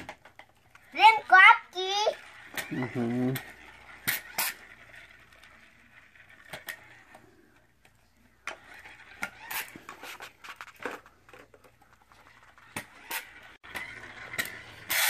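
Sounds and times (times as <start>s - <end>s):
toy trucks clicking and tapping: 0.0s - 15.0s.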